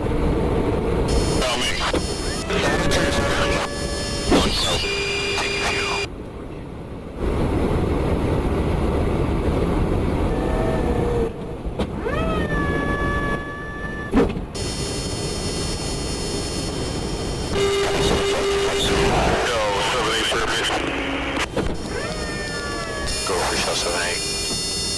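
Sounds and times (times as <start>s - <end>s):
jet engine whine: 0.0s - 24.9s.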